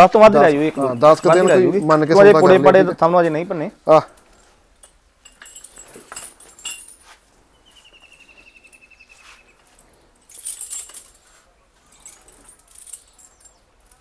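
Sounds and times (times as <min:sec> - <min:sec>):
metal chain clinking: 0:00.3 - 0:07.3, 0:09.6 - 0:14.0.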